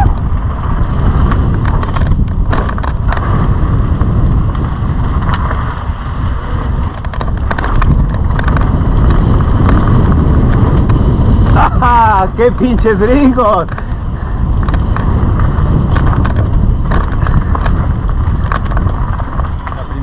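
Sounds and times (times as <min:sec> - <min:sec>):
bike clicks and rattles: 0:00.0 - 0:20.0
tyres on loose gravel: 0:00.0 - 0:20.0
wind rumbling on microphone: 0:00.0 - 0:20.0.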